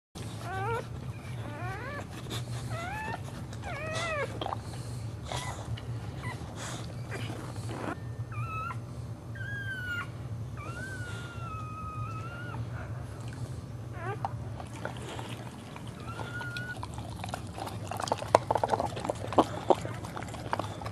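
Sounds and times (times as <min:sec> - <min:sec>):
dog whining: 0:00.2 - 0:20.9
steady low hum: 0:00.2 - 0:20.9.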